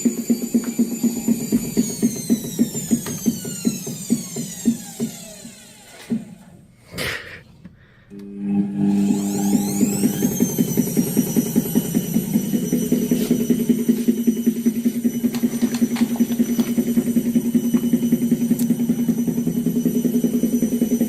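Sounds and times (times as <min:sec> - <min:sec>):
rhythmic thumping of machine: 0:00.0 - 0:06.5, 0:09.0 - 0:21.0
washing machine spinning: 0:00.0 - 0:06.8, 0:08.1 - 0:21.0.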